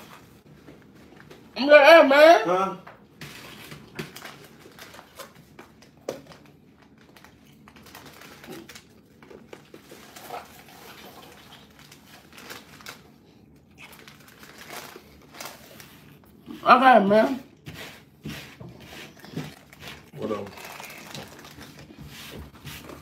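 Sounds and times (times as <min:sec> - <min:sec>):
plastic bag rustling and crinkling: 0:03.1 - 0:16.4, 0:17.7 - 0:23.0.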